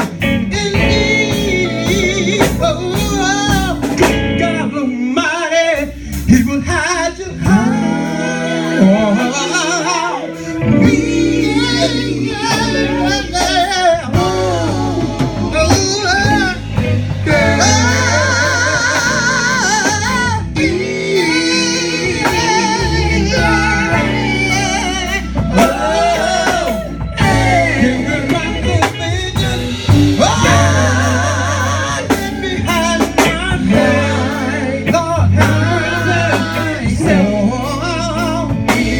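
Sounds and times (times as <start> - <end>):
band with guitar bass and drums: 0.0 - 38.9
gospel singing: 0.0 - 38.9.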